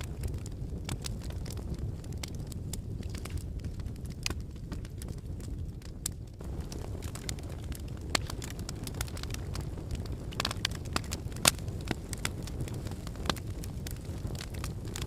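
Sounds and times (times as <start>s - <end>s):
logs crackling and popping: 0.0s - 15.0s
wood fire burning: 0.0s - 15.0s.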